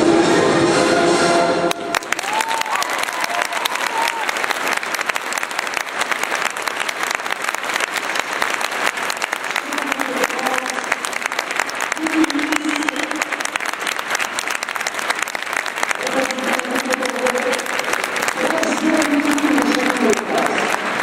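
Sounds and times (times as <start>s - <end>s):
audience applauding: 1.7s - 21.0s.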